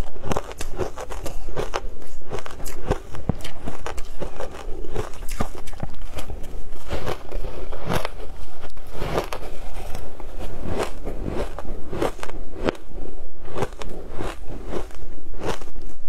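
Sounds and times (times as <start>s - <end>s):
ice crunching as chewed: 0.0s - 16.0s.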